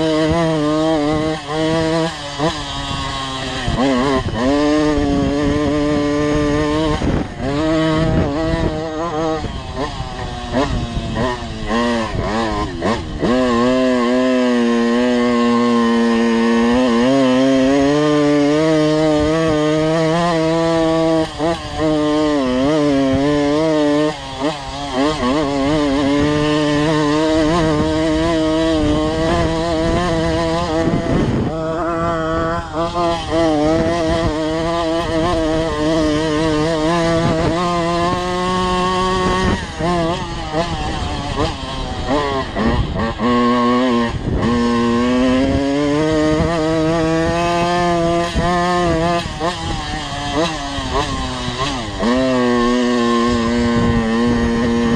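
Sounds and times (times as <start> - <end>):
moped engine revving: 0.0 - 54.9.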